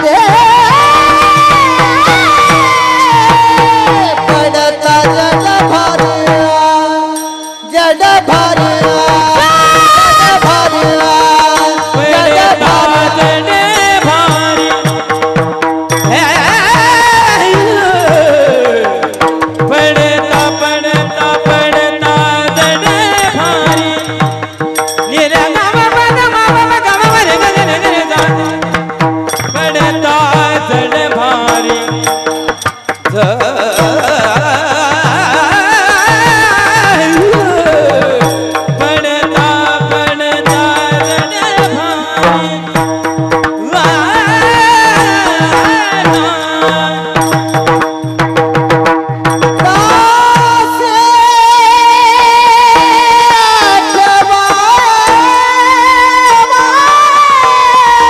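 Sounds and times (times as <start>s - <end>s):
man singing ornamented melody: 0.0s - 58.0s
steady held accompaniment: 0.0s - 58.0s.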